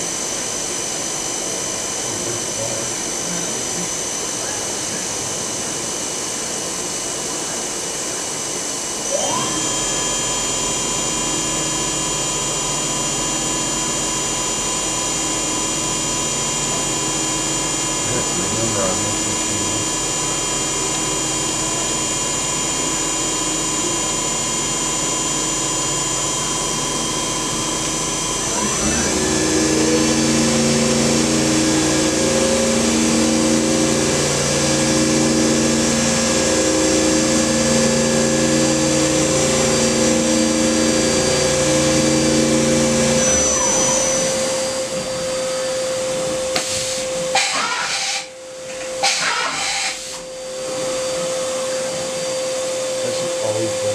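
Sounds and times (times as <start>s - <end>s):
mill spindle whining: 0.0s - 53.9s.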